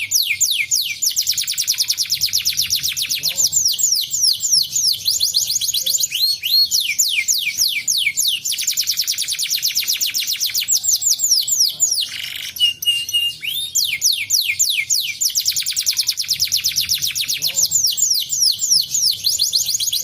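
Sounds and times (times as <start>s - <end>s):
canary singing trill: 0.0s - 20.0s.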